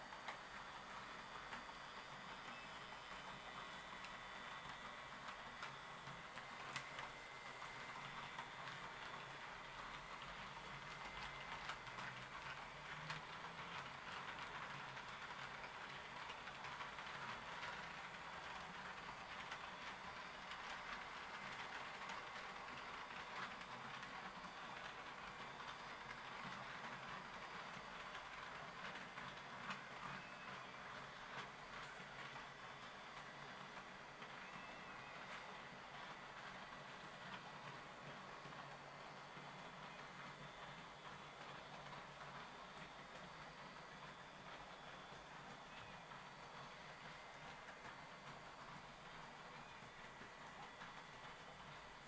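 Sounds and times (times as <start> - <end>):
model train rolling: 0.0 - 52.0.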